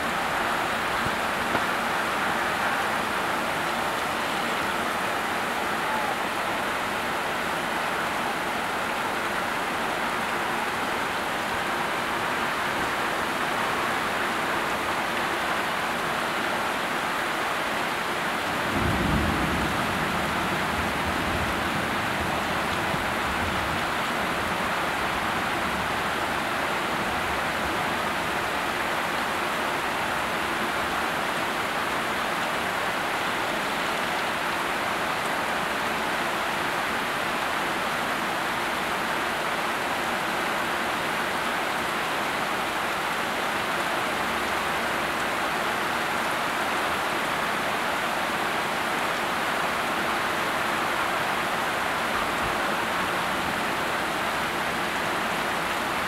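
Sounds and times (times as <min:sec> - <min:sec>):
heavy rain on water: 0:00.0 - 0:56.0.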